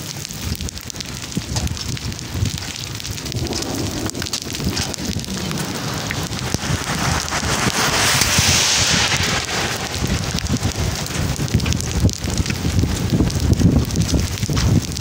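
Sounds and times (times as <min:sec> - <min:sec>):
rain falling on road: 0:00.0 - 0:15.0
wind buffeting microphone: 0:00.0 - 0:15.0.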